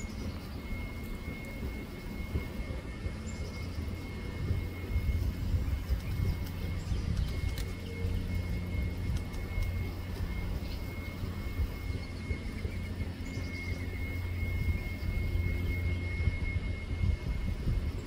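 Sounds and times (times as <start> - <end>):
low outdoor rumble: 0.0 - 18.0
thin high steady tone: 0.0 - 18.0.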